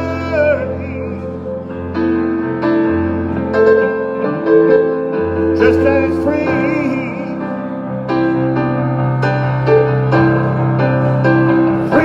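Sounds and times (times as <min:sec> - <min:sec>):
electric keyboard chords: 0:00.0 - 0:12.0.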